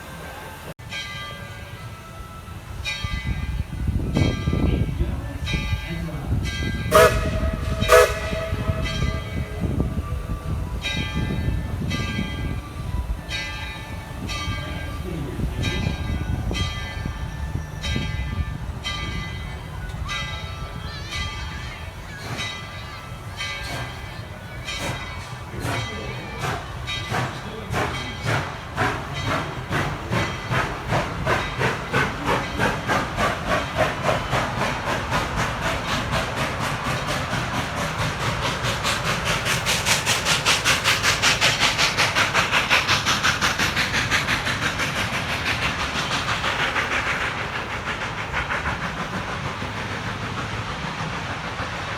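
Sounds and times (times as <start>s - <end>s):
locomotive bell ringing: 0.0s - 51.8s
steam hiss: 0.0s - 51.9s
steam locomotive exhaust chuffs: 0.0s - 51.9s.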